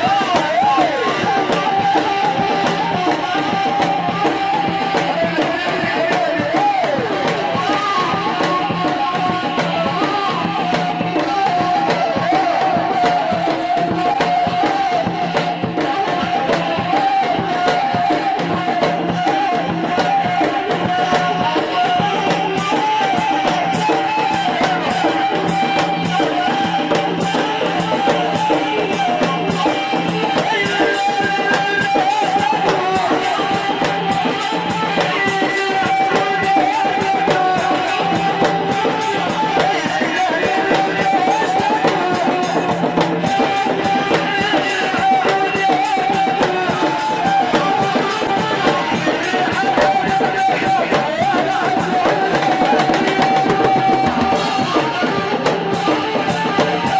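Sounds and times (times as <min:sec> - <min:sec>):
double-headed drums: 0:00.0 - 0:56.9
drum kit dance rhythm: 0:00.0 - 0:56.9.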